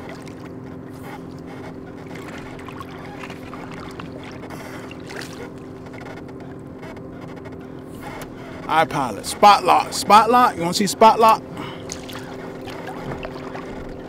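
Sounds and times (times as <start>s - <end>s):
electric trolling motor humming: 0.0s - 14.0s.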